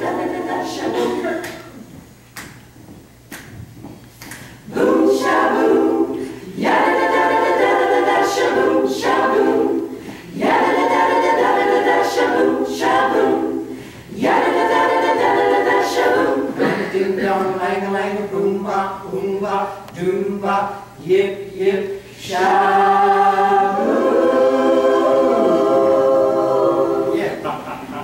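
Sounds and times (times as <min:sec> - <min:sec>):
women singing in close harmony: 0:00.0 - 0:01.8, 0:04.6 - 0:27.2.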